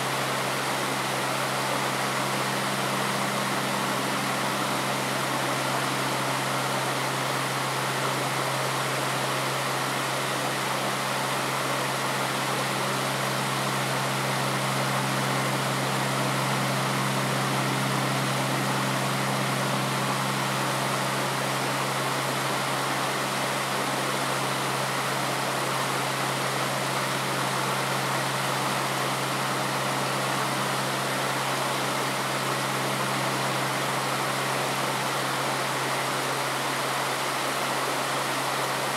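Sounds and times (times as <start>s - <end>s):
steady low hum: 0.0s - 38.9s
stream water running: 0.0s - 38.9s.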